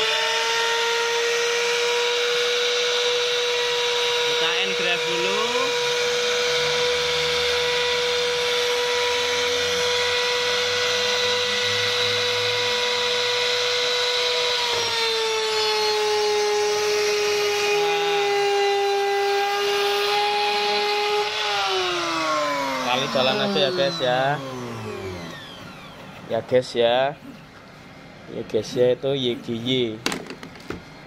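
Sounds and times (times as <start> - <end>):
router spindle whining: 0.0 - 27.5.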